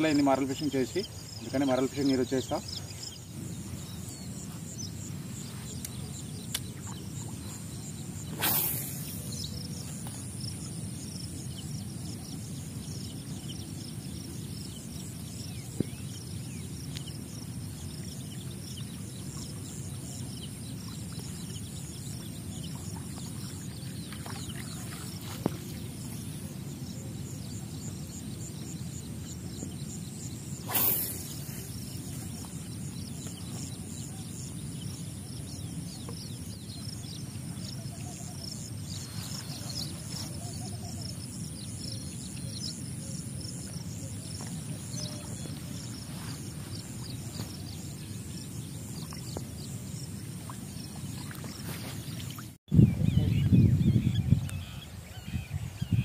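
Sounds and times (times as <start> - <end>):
insect chirring: 0.0 - 51.7.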